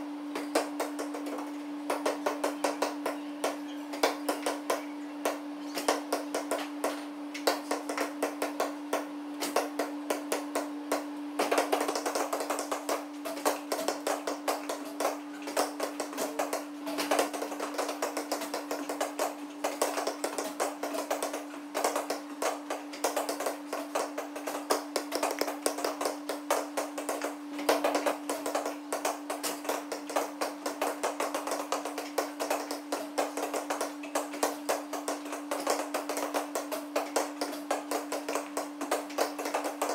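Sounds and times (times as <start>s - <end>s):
steady hum: 0.0s - 39.9s
music with quick tapping beat: 0.4s - 39.9s.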